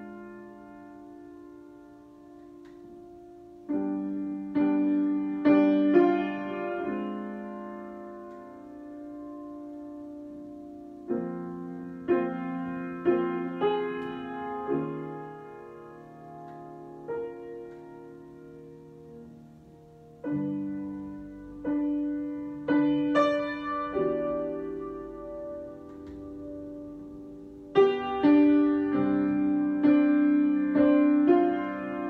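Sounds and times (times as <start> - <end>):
piano chords: 0.0 - 32.0.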